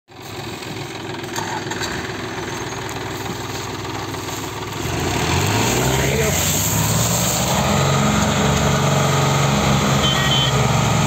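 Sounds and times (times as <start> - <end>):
tractor diesel engines idling: 0.1 - 11.0.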